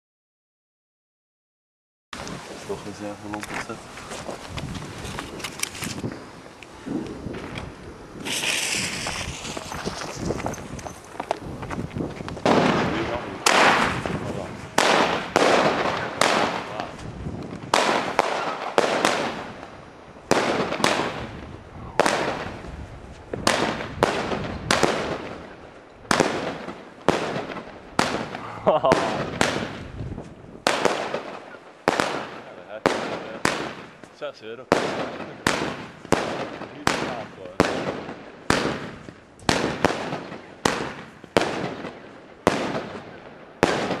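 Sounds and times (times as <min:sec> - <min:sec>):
dense firework crackling: 0:02.2 - 0:44.0
firework bangs: 0:02.2 - 0:44.0.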